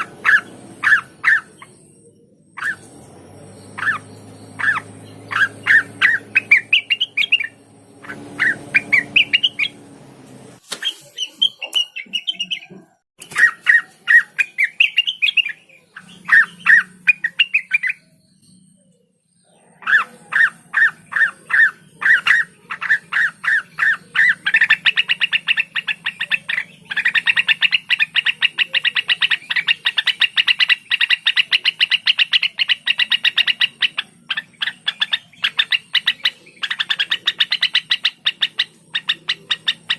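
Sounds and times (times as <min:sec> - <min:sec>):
bird chirping and rattling: 0:00.0 - 0:18.8, 0:19.6 - 0:39.9.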